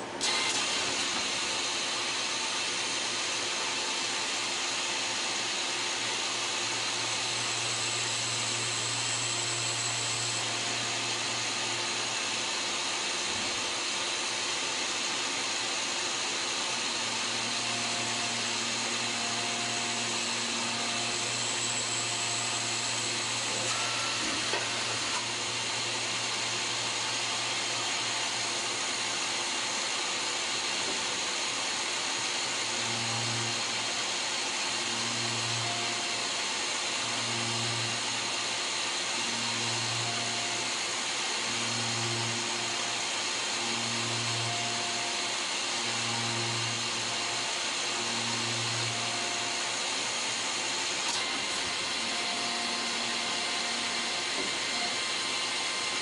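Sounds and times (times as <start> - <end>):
lathe whirring and hissing: 0.0 - 56.0.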